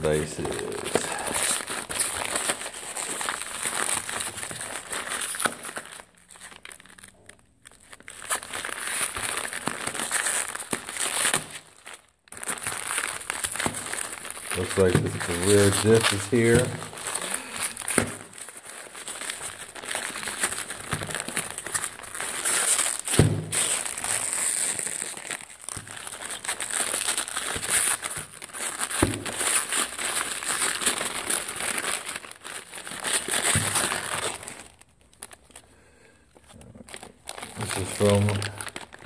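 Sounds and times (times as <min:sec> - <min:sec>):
packaging crinkling: 0:00.0 - 0:39.0.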